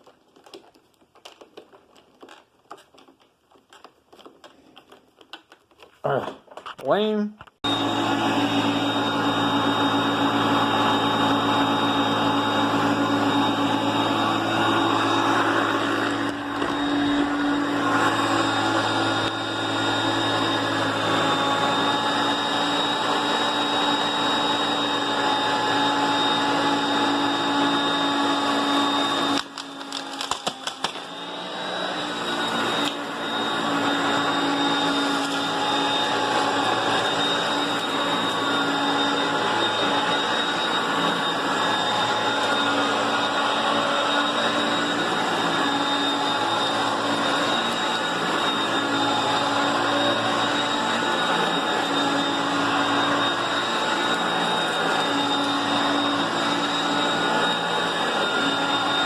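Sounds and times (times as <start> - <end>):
vacuum cleaner running: 7.6 - 59.0.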